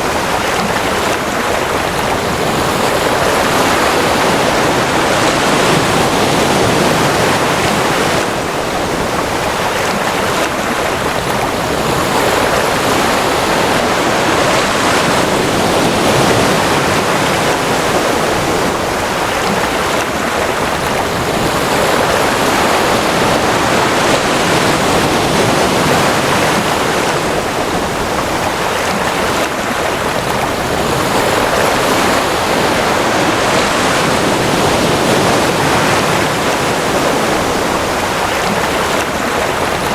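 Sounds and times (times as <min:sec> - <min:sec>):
ocean surf washing: 0:00.0 - 0:39.9.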